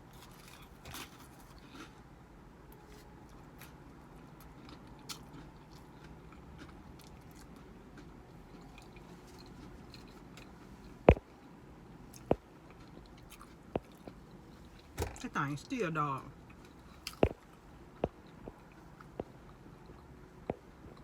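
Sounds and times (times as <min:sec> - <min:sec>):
low steady hum: 0:00.0 - 0:21.0
person chewing: 0:00.1 - 0:02.0, 0:03.6 - 0:11.3, 0:12.1 - 0:15.2, 0:16.4 - 0:21.0.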